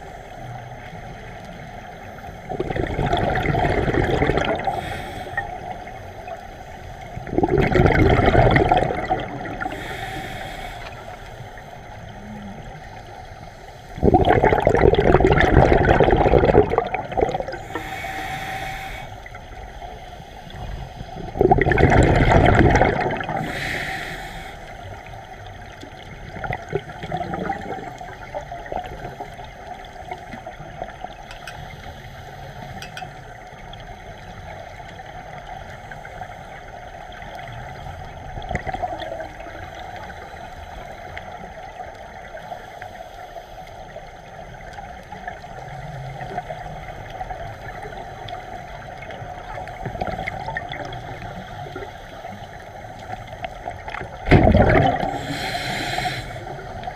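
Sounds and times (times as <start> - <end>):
scuba regulator bubbles gurgling: 0.0 - 56.9
steady underwater hiss: 0.0 - 56.9.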